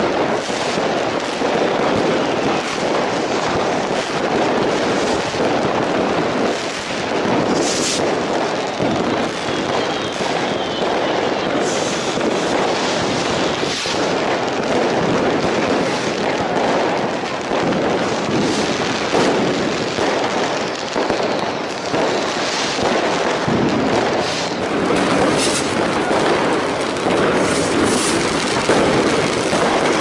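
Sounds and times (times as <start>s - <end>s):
fireworks bangs and crackles: 0.0s - 30.0s
sharp firework cracks: 0.0s - 30.0s.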